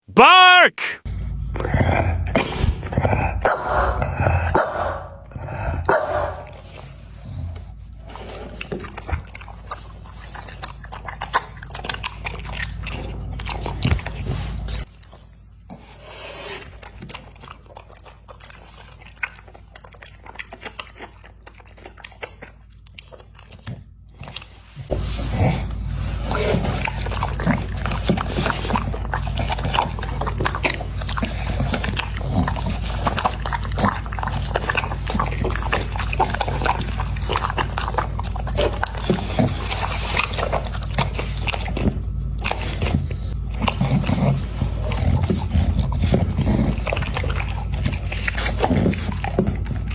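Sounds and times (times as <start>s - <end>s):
steady low hum: 1.0s - 15.8s, 24.7s - 49.9s
dog chewing and crunching food: 1.1s - 49.9s.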